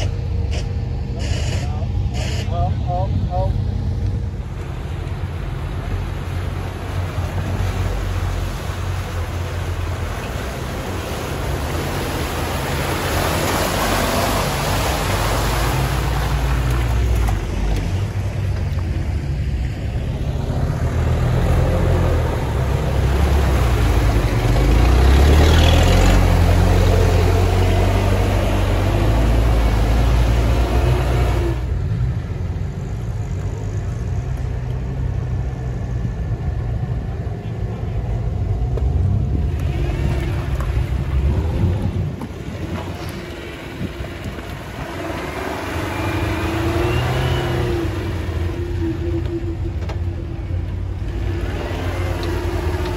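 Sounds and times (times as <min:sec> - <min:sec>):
engine revving off-road: 0:00.0 - 0:52.9.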